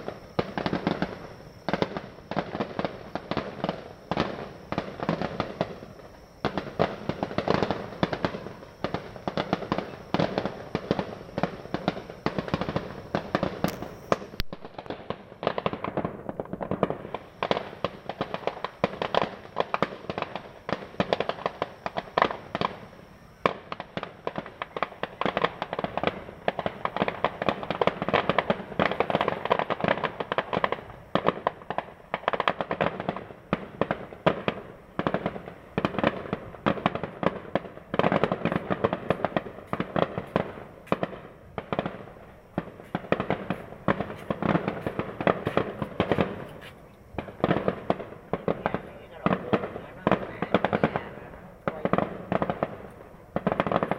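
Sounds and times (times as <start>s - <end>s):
fireworks bangs and pops: 0.0s - 53.9s.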